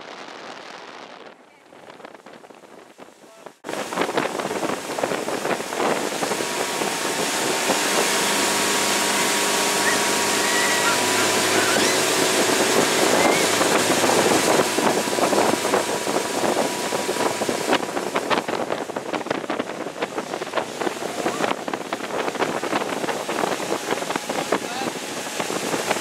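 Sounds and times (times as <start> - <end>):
wake water rushing: 0.0 - 26.0
wind buffeting microphone: 0.0 - 26.0
motorboat engine running: 3.7 - 26.0.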